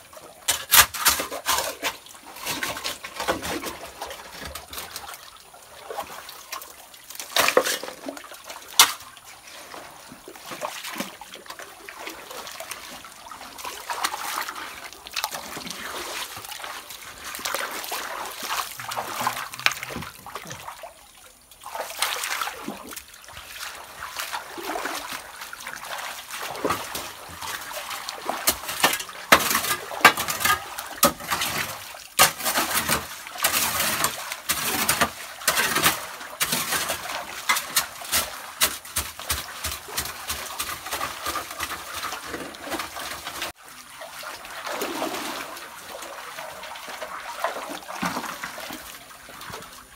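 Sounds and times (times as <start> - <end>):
muddy water splashing: 0.0 - 49.9.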